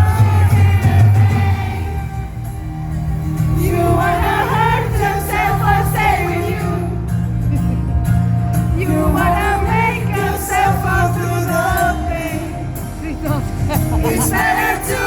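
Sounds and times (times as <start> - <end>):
man singing lead vocal: 0.0 - 7.8, 8.7 - 15.0
live rock band playing: 0.0 - 15.0.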